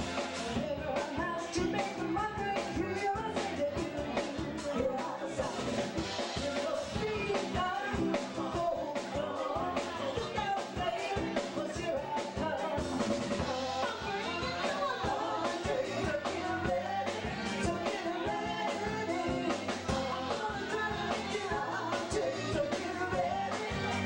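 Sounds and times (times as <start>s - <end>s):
drum kit beat: 0.0s - 24.0s
live band playing: 0.0s - 24.0s
singing into microphones: 0.6s - 24.0s.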